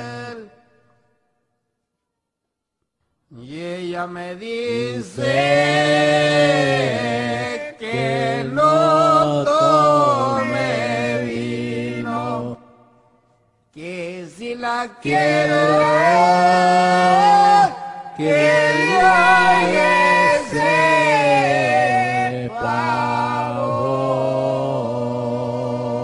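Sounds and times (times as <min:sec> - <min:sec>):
person singing unaccompanied: 0:03.4 - 0:12.6, 0:13.8 - 0:26.0.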